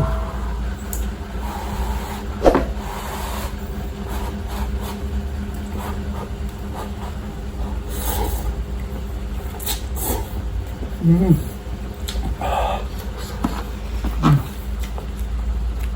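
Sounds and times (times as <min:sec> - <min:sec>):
steady low hum: 0:00.0 - 0:15.9
chewing and slurping noodles: 0:01.4 - 0:15.9.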